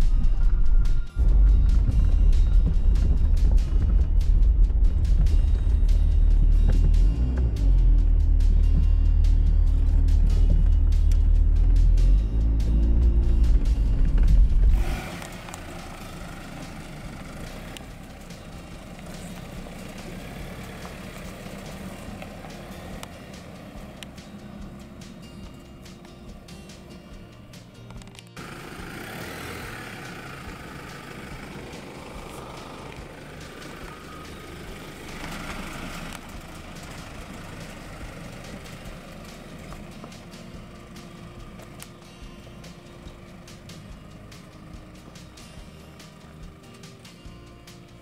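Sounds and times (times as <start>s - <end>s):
car engine running low: 0.0s - 48.0s.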